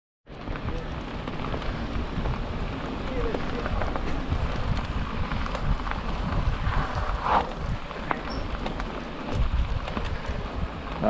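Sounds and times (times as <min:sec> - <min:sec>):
mountain bike riding over rough ground: 0:00.3 - 0:11.0.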